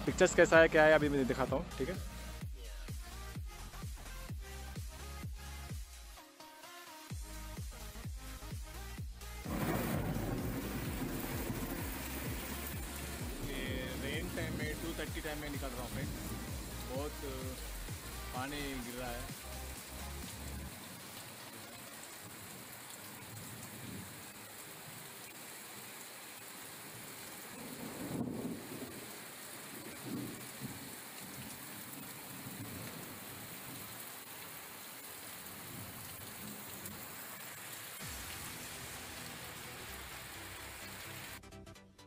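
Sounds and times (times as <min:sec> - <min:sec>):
steady rain falling: 0:07.2 - 0:41.4.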